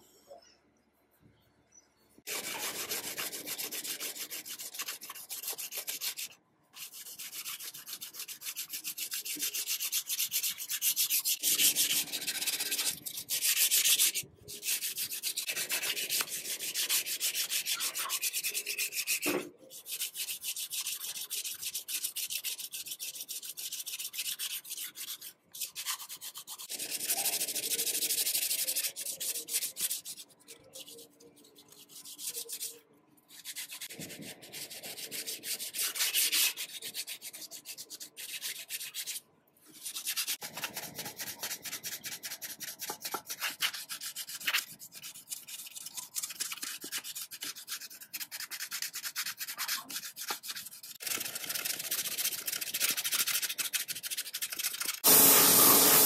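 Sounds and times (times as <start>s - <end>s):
sanding sponge scrubbing paint: 2.3s - 56.0s.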